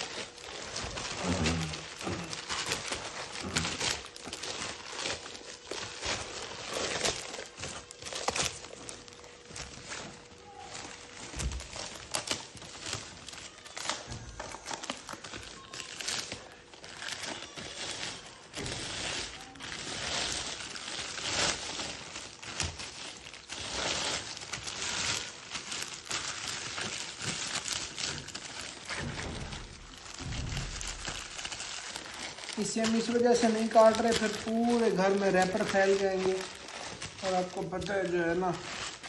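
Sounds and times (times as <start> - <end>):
plastic wrapping crinkling: 0.0 - 39.0.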